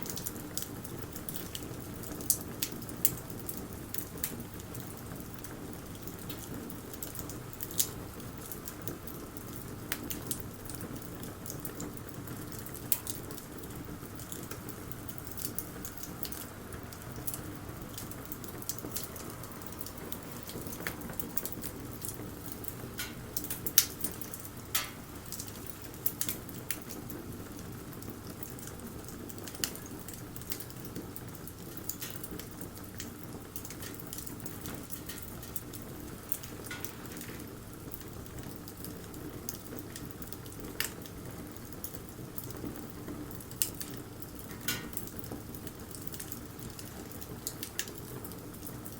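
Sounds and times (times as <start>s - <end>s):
wood bonfire crackling: 0.0s - 48.9s.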